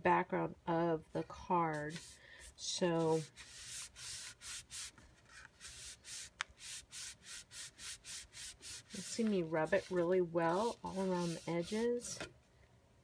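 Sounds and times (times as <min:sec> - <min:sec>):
hand rubbing over cardstock: 0:01.7 - 0:12.2.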